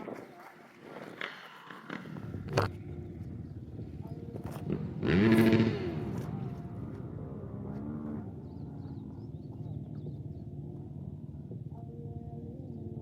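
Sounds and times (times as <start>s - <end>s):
dirt bike engine passing: 0.0s - 12.9s
steady engine noise: 0.6s - 13.0s
engine revving: 1.1s - 12.5s.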